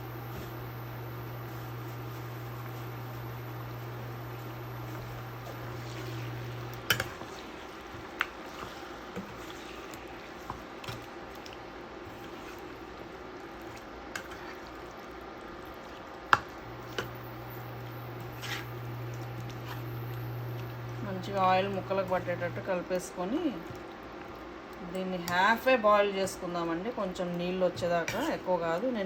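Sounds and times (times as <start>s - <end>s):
squishy stirring in oil: 1.4s - 29.0s.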